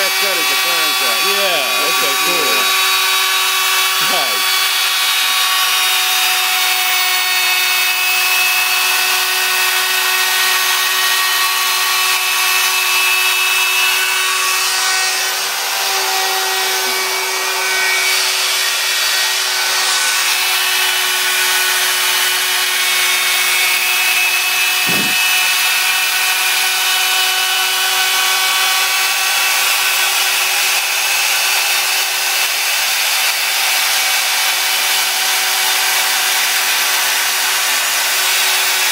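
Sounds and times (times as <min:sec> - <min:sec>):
router spindle whine: 0:00.0 - 0:38.8
bit cutting through board: 0:00.0 - 0:38.9.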